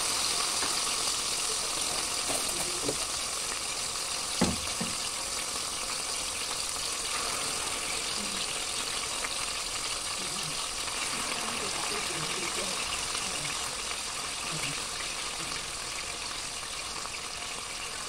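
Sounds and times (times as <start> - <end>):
liver sizzling in hot oil: 0.0 - 18.0.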